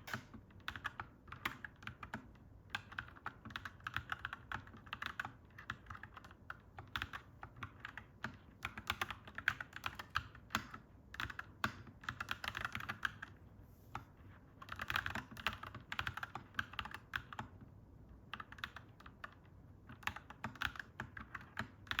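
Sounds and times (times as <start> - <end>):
mechanical keyboard typing: 0.0 - 13.4, 14.6 - 17.6, 18.2 - 22.0.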